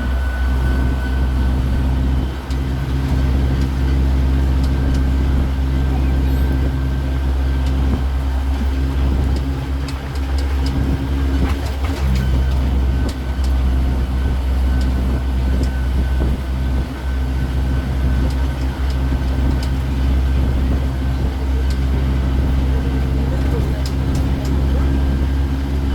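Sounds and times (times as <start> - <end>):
tour train engine droning: 0.0 - 25.9.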